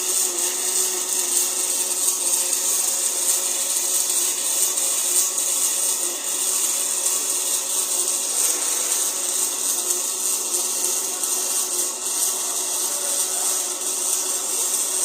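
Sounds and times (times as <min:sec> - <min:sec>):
welding arc crackling and hissing: 0:00.0 - 0:15.0.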